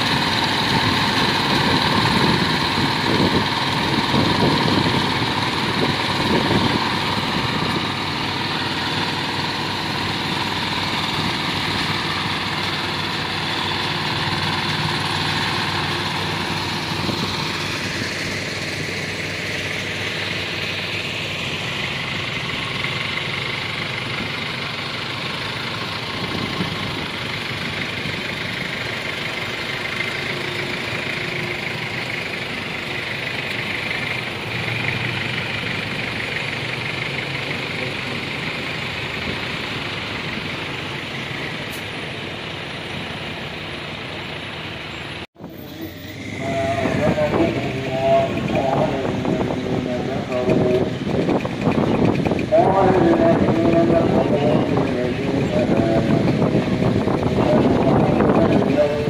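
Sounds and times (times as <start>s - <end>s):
truck diesel engines droning: 0.0s - 59.0s.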